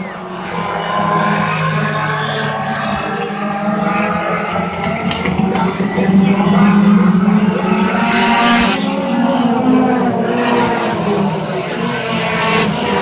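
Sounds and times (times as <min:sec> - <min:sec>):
race car engines: 0:00.0 - 0:13.0
race car passing close by: 0:00.0 - 0:13.0.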